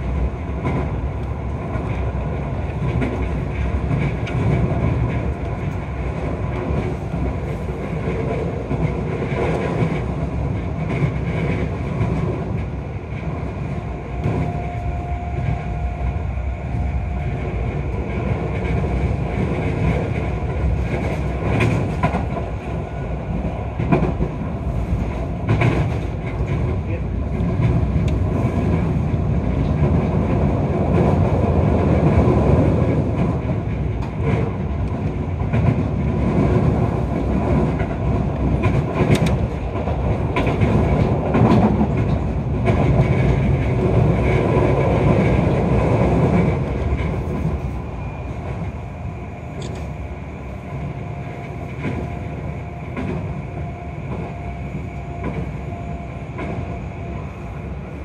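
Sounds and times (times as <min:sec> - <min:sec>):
train wheel and rail noise: 0:00.0 - 0:58.0.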